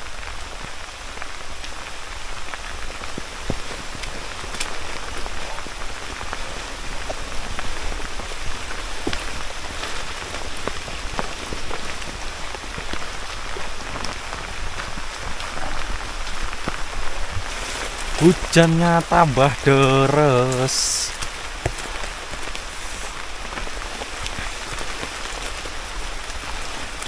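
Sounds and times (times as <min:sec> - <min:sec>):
heavy rain: 0:00.0 - 0:27.0
raindrops tapping: 0:00.1 - 0:27.0.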